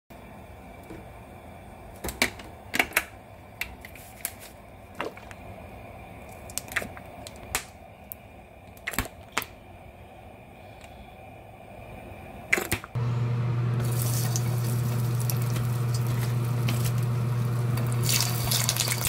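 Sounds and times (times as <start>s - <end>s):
low steady hum: 0.1s - 19.0s.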